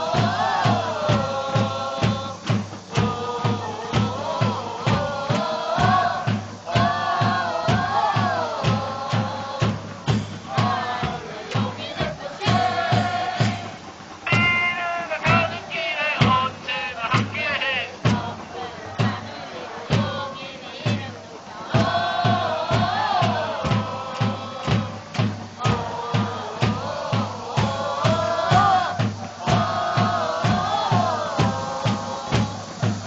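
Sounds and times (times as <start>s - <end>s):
crowd chanting in unison: 0.0s - 33.0s
drum beating steadily: 0.0s - 33.0s.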